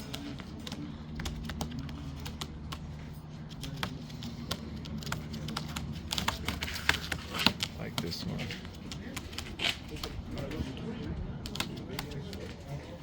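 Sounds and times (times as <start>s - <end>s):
pigeons pecking clicks and taps: 0.0s - 10.6s, 11.4s - 12.8s
low steady hum: 0.0s - 13.0s.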